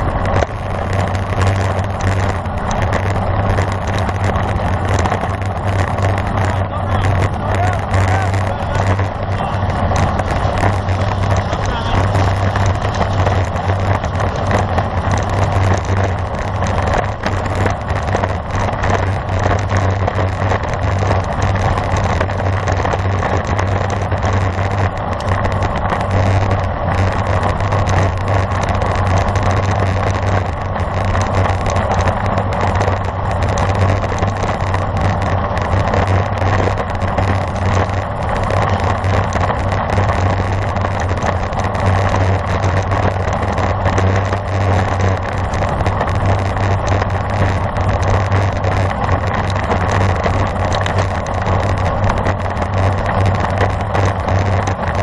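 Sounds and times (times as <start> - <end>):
road rumble: 0.0 - 55.0
rushing wind on microphone: 0.0 - 55.0.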